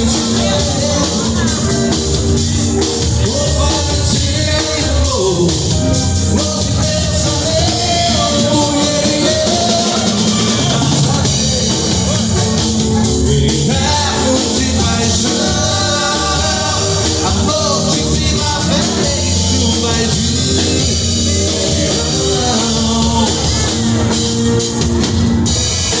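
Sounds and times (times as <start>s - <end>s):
band music: 0.0s - 26.0s.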